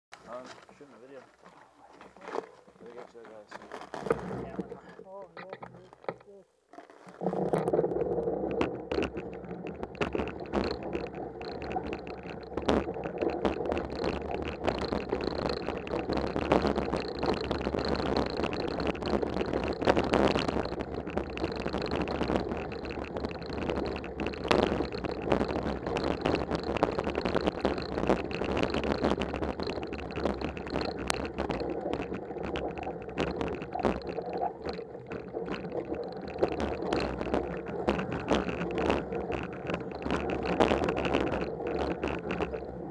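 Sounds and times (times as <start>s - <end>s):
bike tyres rumbling on snow: 6.9s - 42.9s.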